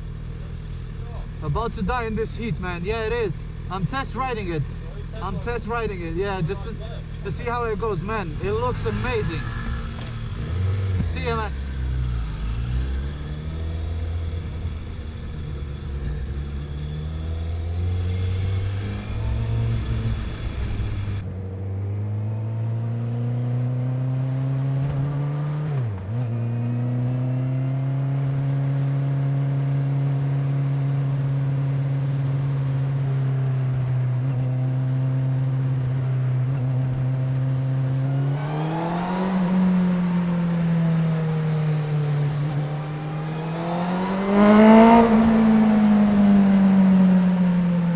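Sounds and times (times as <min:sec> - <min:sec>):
motorcycle engine revving: 0:02.8 - 0:47.9.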